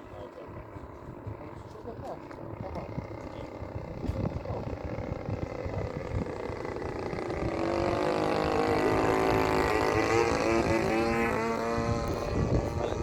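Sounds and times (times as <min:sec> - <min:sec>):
model airplane engine droning: 0:00.0 - 0:13.0
wind rumble on microphone: 0:00.0 - 0:13.0.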